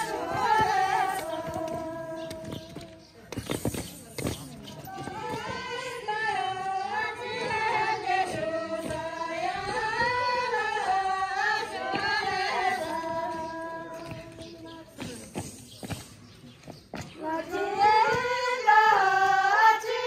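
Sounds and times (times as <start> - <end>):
women singing folk melody: 0.0 - 3.2, 4.7 - 15.7, 16.9 - 20.0.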